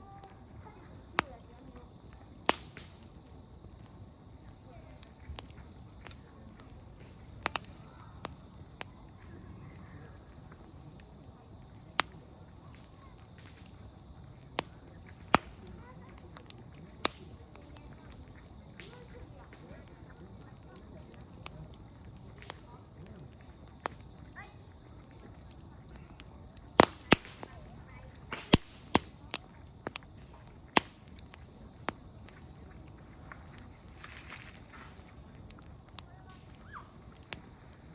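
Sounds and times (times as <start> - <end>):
campfire crackling and popping: 0.0 - 37.9
low steady fire noise: 0.0 - 37.9.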